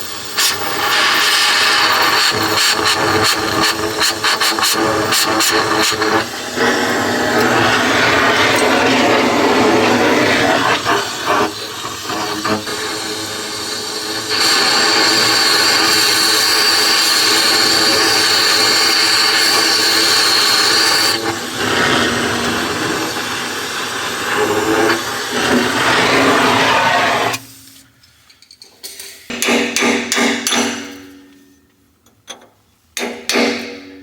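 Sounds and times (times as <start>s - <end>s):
cutting torch hissing: 0.0s - 27.8s.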